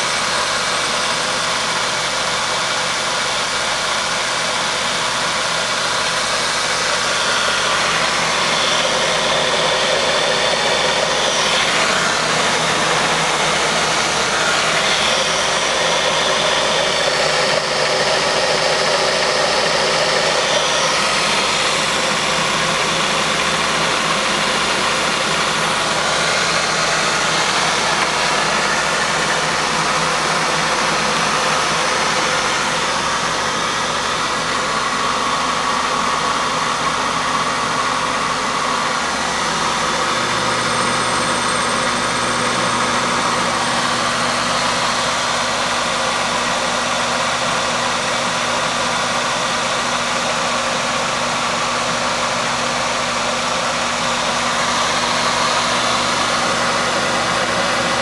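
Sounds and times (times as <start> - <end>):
milling machine humming: 0.0 - 58.0.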